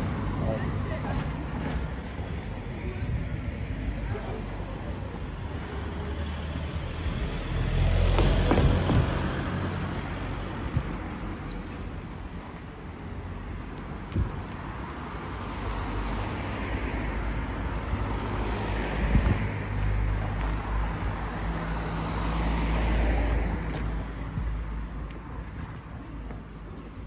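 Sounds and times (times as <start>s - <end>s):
cars driving past: 0.0s - 11.8s, 13.3s - 25.8s.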